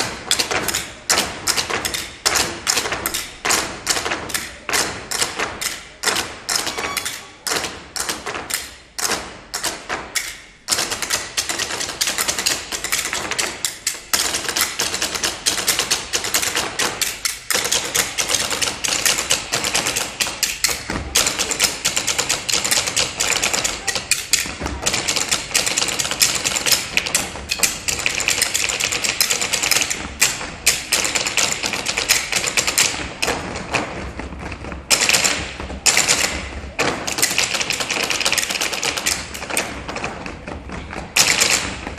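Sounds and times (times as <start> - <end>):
rhythmic tabletop percussion: 0.0 - 41.9.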